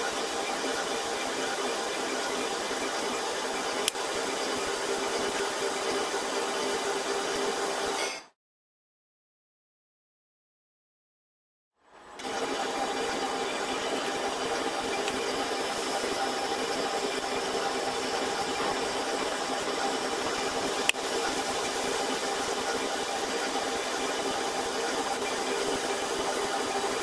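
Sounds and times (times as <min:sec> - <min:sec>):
machine hum with hiss: 0:00.0 - 0:08.2, 0:11.9 - 0:27.0.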